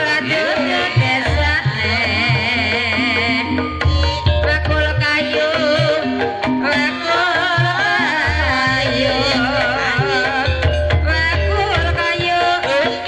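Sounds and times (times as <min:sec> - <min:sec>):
hand drums: 0:00.0 - 0:13.0
person singing wavering vocal: 0:00.0 - 0:13.0
tuned percussion: 0:00.0 - 0:13.0.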